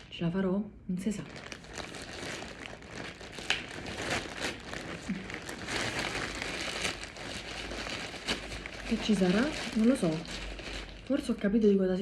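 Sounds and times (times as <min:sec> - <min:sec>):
packaging crinkling and tearing: 0:01.2 - 0:11.4.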